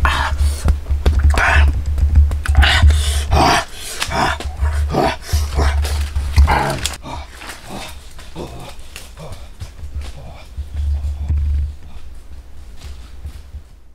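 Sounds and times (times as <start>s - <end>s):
animal growling and grunting: 0.0s - 1.8s, 2.4s - 12.1s
deep steady hum: 0.0s - 13.9s.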